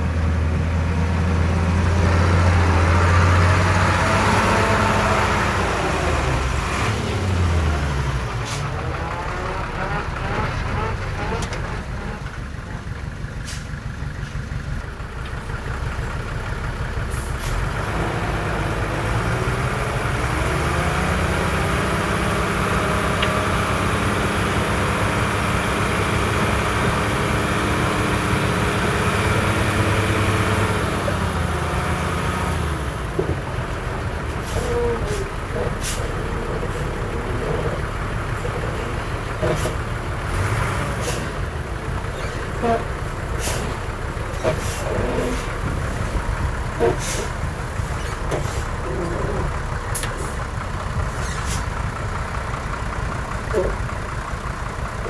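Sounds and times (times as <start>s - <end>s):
heavy diesel engine revving: 0.0s - 12.7s, 13.4s - 55.0s.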